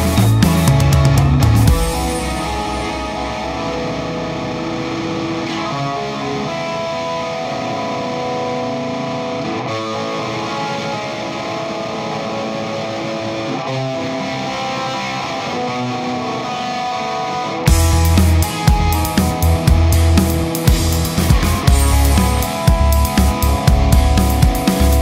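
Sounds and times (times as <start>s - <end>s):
guitar rock music: 0.0s - 25.0s.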